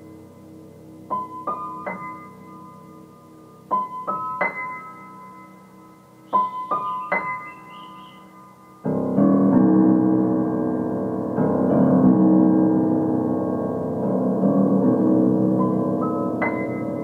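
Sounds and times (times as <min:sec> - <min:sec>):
slow piano notes: 0:00.0 - 0:17.0.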